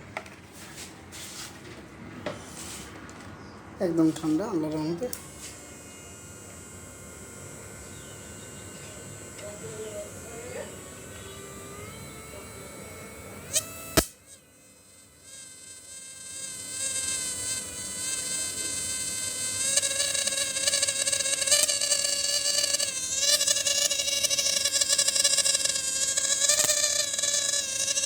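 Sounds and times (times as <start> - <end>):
inverter whining with high buzz: 1.9 - 28.0.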